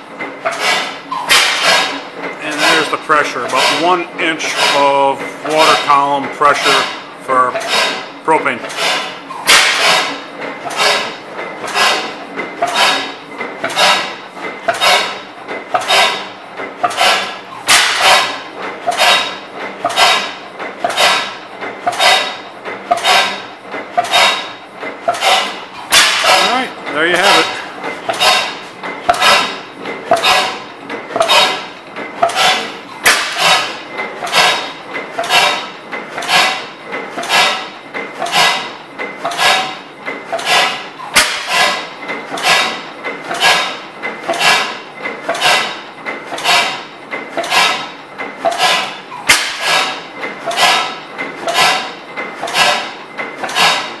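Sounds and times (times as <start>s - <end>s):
sharp mechanical clacks: 0.0s - 54.0s
stationary gas engine running: 0.0s - 54.0s.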